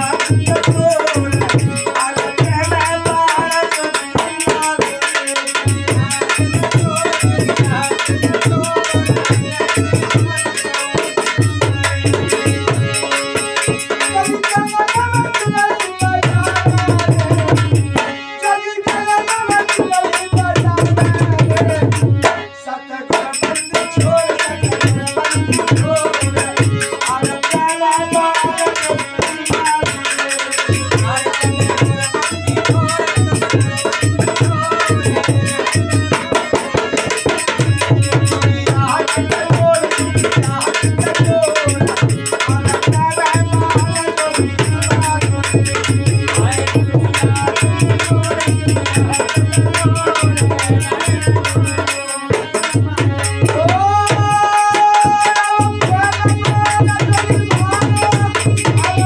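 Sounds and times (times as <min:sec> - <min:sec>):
hand drum fast rhythm: 0:00.0 - 0:18.2, 0:18.8 - 0:22.5, 0:23.1 - 0:59.0
harmonium: 0:00.0 - 0:59.0
man singing: 0:00.0 - 0:59.0.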